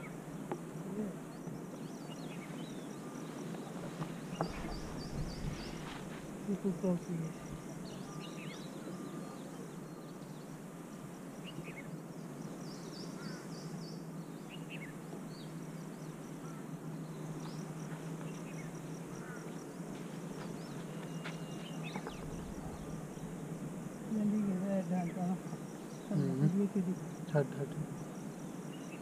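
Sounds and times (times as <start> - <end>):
high insect trill: 0.0 - 29.0.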